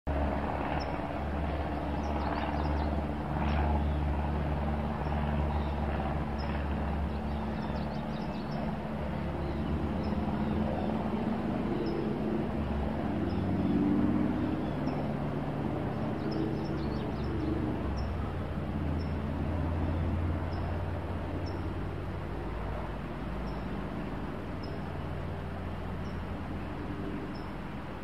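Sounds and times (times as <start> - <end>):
low engine-like hum: 0.1 - 28.0.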